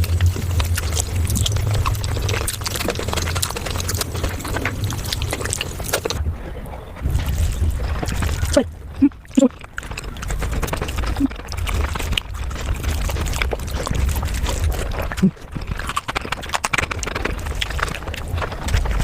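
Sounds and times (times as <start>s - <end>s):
wet mouth clicks and chewing: 0.0s - 6.2s, 7.0s - 19.0s
low rumble: 0.0s - 19.0s.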